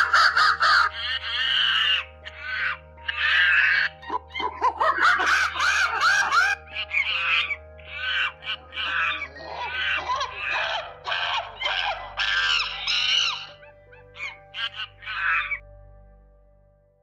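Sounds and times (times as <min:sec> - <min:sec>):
monkeys calling: 0:00.0 - 0:15.6.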